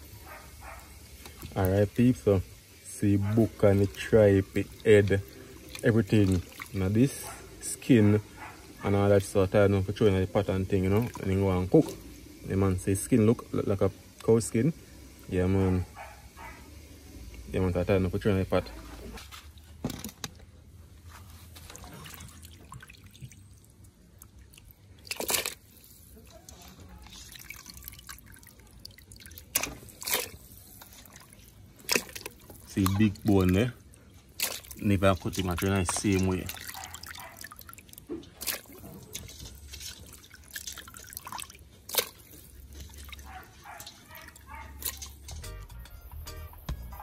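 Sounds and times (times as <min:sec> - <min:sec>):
water dripping in a metal bowl: 0:00.9 - 0:15.8, 0:22.0 - 0:47.0.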